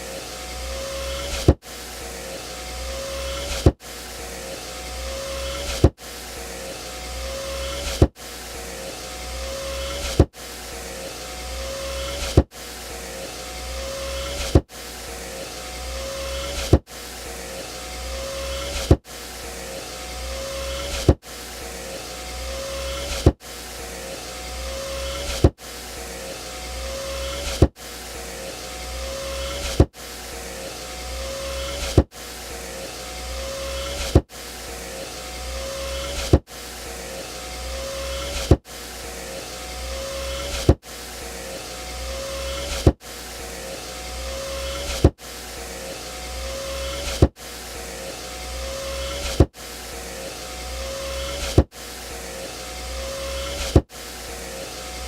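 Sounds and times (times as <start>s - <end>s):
power window motor whining: 0.0s - 55.0s.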